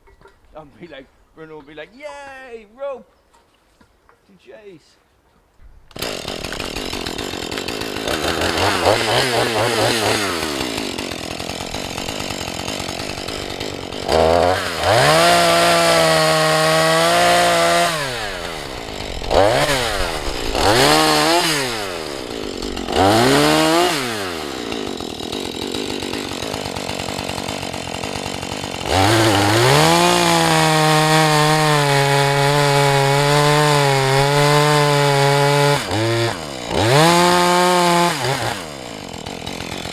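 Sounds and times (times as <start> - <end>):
chainsaw revving: 5.9 - 39.9.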